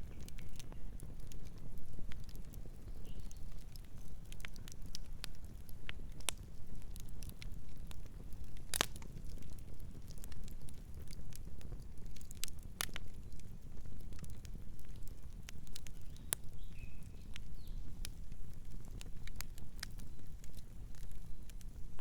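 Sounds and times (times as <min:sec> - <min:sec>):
campfire flames rumbling: 0:00.0 - 0:22.0
wood crackling and popping: 0:00.0 - 0:22.0.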